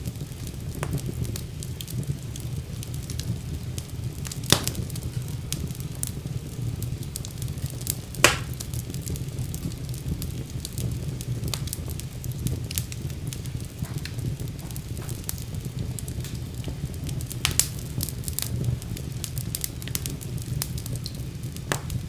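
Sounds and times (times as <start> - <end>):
fire crackling in a fireplace: 0.0 - 22.0
loud sharp pops of fire: 0.0 - 22.0.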